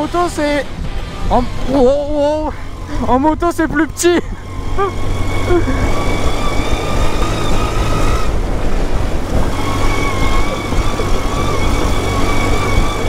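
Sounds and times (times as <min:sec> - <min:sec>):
buggy engine whining: 0:00.0 - 0:13.0
wind and rough ground rumble: 0:00.0 - 0:13.0.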